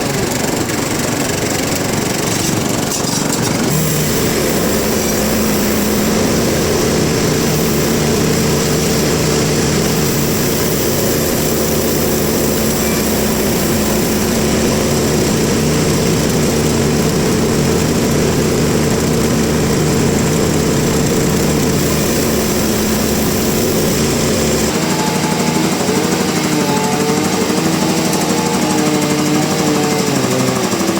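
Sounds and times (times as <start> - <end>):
sawmill machinery drone: 0.0 - 30.9.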